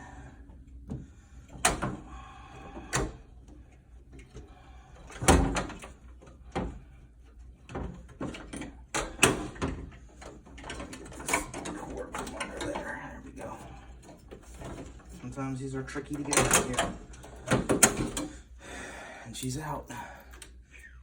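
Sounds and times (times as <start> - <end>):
knocks and clunks: 0.4 - 18.5.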